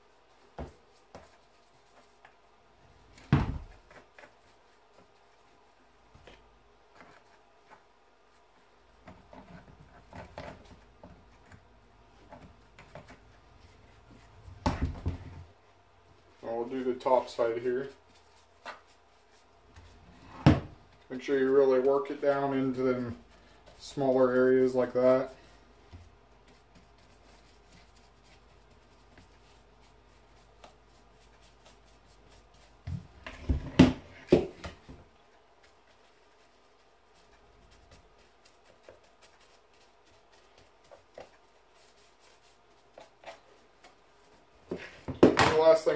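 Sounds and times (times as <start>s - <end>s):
small brush tapping and scraping: 0.0s - 2.4s, 3.0s - 15.4s, 16.2s - 20.2s, 20.8s - 45.9s.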